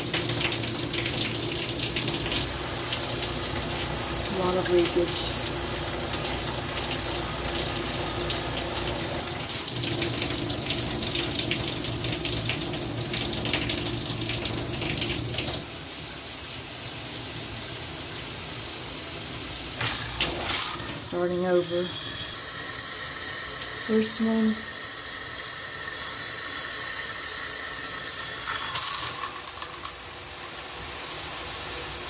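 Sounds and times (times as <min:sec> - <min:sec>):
shower head spraying water: 0:00.0 - 0:15.6, 0:19.8 - 0:31.7.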